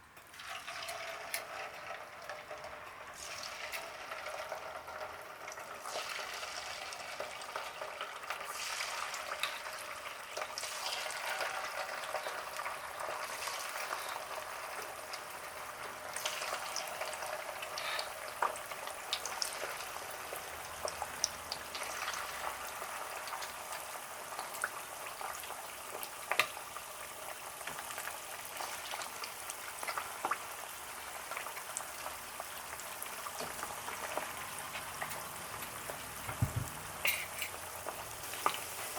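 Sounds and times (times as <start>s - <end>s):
food sizzling in hot oil: 0.2s - 38.9s.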